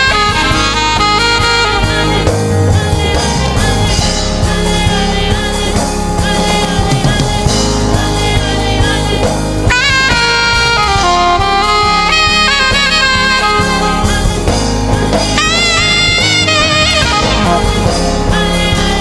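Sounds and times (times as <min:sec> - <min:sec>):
gospel band playing: 0:00.0 - 0:19.0
saxophone lead: 0:00.0 - 0:19.0.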